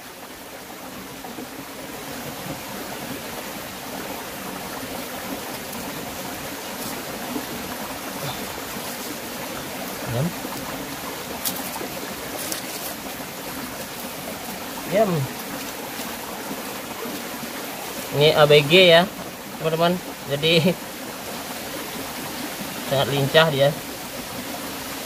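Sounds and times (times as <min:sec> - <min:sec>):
stream flowing over stones: 0:00.0 - 0:25.0.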